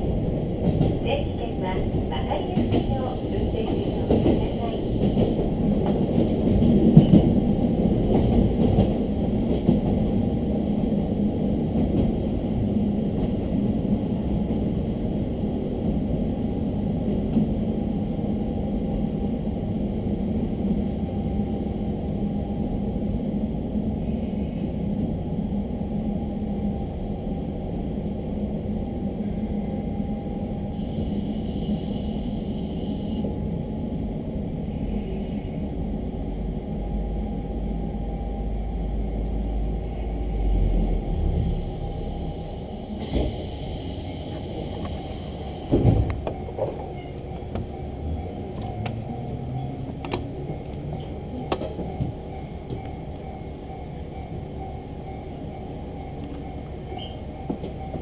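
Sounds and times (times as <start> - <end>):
railcar engine drone: 0.0 - 58.0
wheel and rail rumble: 0.0 - 58.0.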